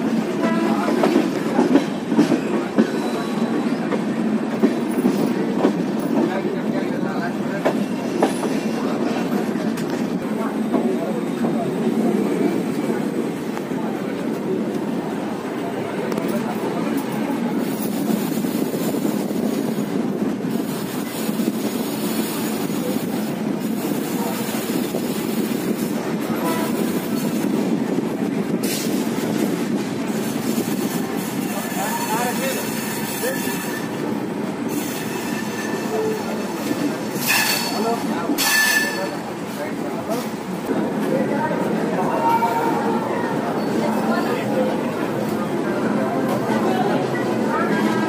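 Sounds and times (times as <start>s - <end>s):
train running gear rumble: 0.0s - 48.0s.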